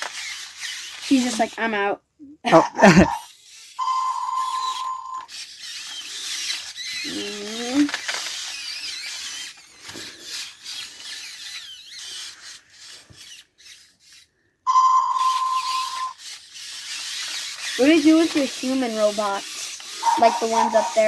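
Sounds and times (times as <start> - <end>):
robot toy dogs chirping: 0.0 - 1.9, 2.5 - 21.0.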